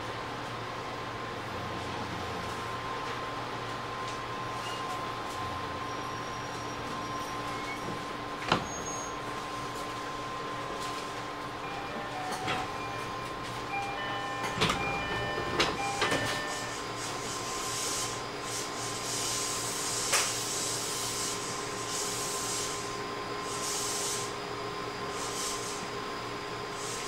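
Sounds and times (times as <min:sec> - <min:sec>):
electric train hum: 0:00.0 - 0:27.0.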